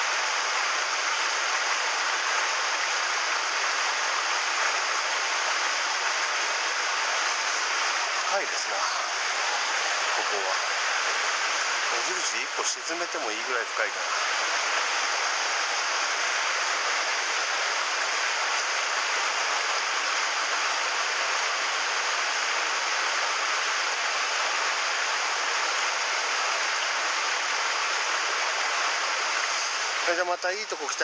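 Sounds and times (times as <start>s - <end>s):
water rushing over rocks: 0.1s - 31.0s.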